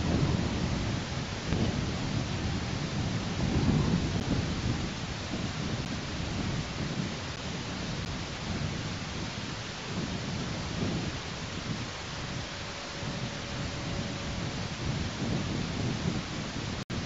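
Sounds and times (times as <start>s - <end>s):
steady hiss: 0.0s - 17.0s
wind buffeting microphone: 0.0s - 17.0s.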